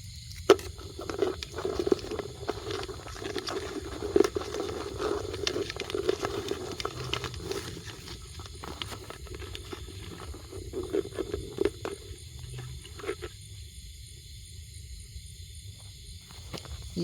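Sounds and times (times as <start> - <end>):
rustling and crackling: 0.2 - 13.5, 15.8 - 17.0.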